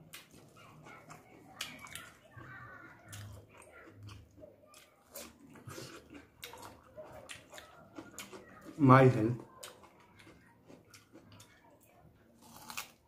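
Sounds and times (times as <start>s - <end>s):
person chewing and crunching food: 0.0s - 13.0s.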